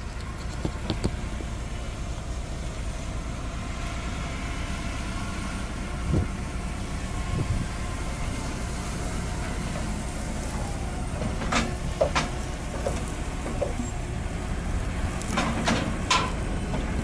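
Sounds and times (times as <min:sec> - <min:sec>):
farm machine engine running: 0:00.0 - 0:17.0.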